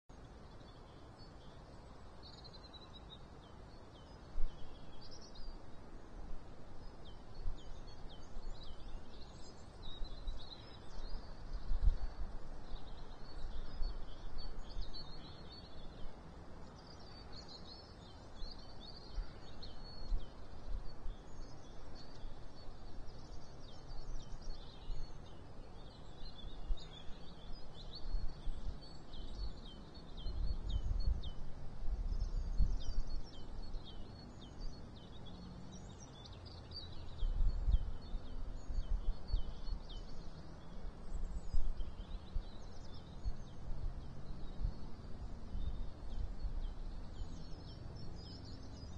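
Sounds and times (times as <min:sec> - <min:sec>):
small songbirds chirping: 0:00.0 - 0:48.9.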